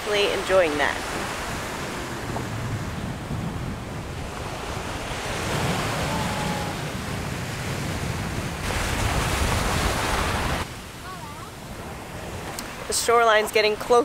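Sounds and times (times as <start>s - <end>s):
surf breaking on a beach: 0.0s - 14.0s
wind buffeting the microphone: 0.0s - 14.0s.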